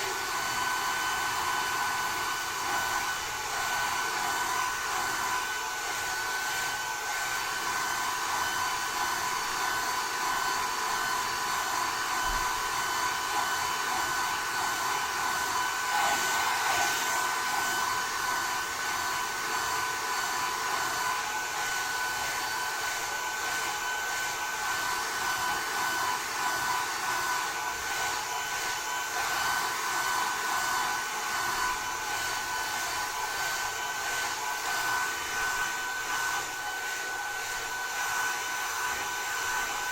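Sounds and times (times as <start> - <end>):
hair dryers blowing: 0.0 - 39.9.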